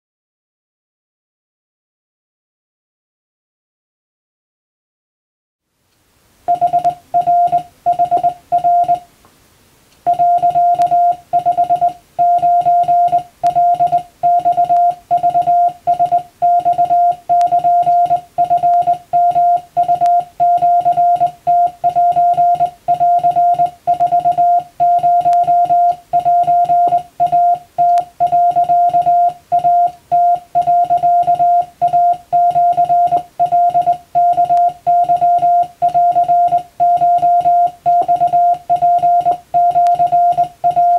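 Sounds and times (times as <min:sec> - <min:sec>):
morse code beeps: 0:06.5 - 0:09.1, 0:10.1 - 0:40.9.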